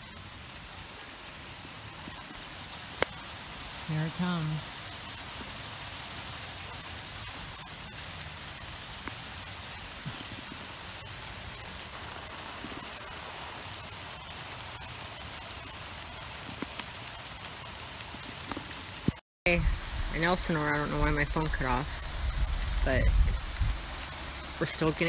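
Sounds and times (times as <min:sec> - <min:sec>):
hail falling on wooden deck: 0:00.6 - 0:25.0.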